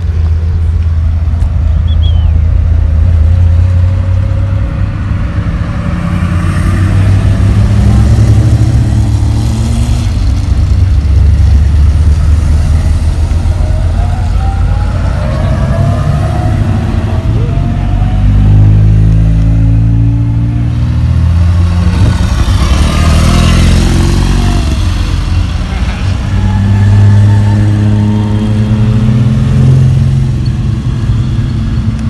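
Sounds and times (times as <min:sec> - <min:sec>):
car engines driving past: 0:00.0 - 0:32.0.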